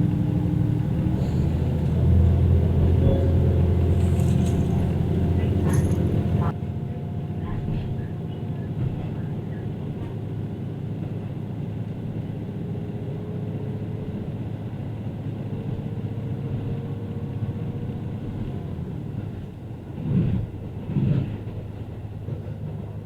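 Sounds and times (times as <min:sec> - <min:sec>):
railcar low rumble: 0:00.0 - 0:23.0.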